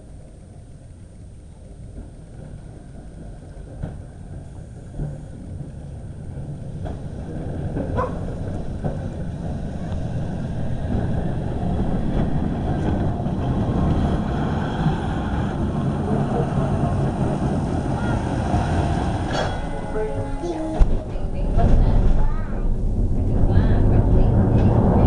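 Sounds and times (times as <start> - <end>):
electric tram rumbling: 0.0 - 25.0.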